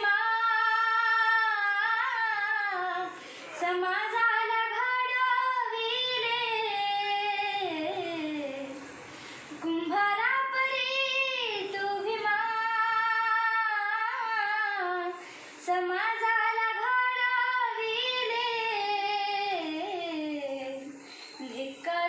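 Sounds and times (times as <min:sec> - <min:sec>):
girl singing unaccompanied: 0:00.0 - 0:08.8, 0:09.6 - 0:22.0.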